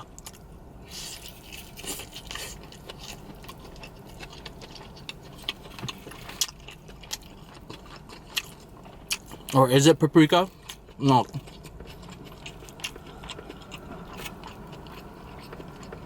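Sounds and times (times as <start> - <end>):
chewing with wet mouth clicks: 0.0 - 16.0.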